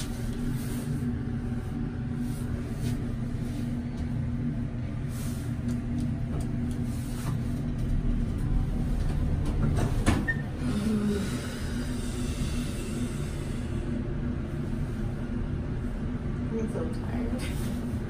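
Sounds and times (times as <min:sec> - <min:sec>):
elevator hum and rumble: 0:00.0 - 0:18.0.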